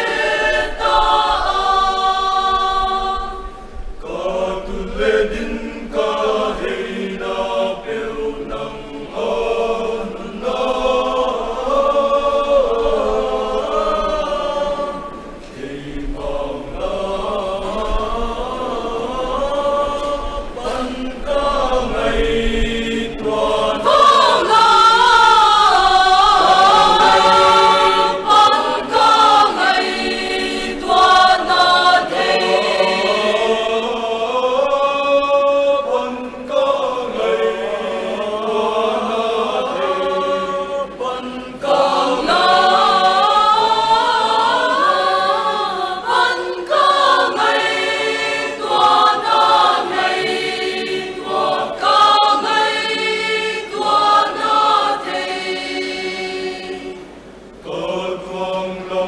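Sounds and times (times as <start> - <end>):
mixed choir singing a hymn: 0.0 - 59.0.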